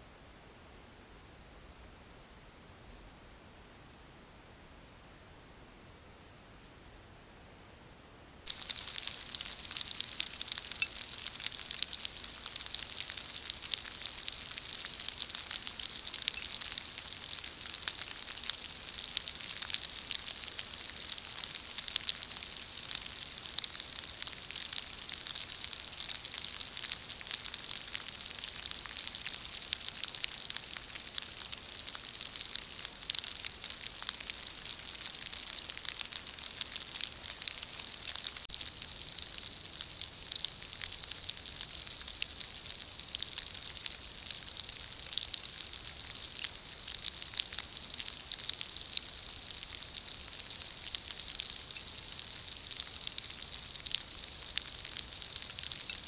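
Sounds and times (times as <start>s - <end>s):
steady rain pattering: 8.4s - 56.0s.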